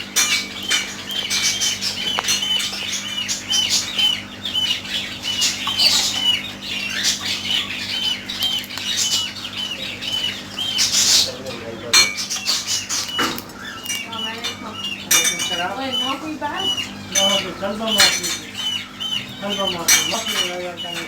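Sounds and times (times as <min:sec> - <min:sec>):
birds chirping: 0:00.0 - 0:21.0
birds squawking: 0:00.0 - 0:21.0.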